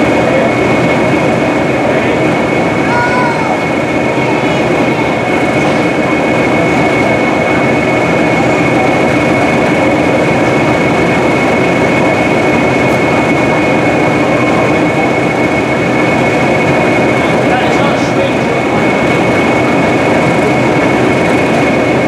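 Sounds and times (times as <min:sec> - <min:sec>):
diesel locomotive engines idling: 0:00.0 - 0:22.0.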